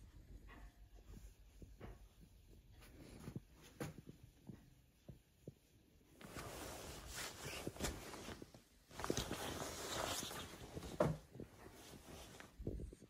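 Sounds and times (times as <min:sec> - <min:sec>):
light footsteps: 0:00.0 - 0:13.0
coat fabric rustling: 0:02.3 - 0:13.0.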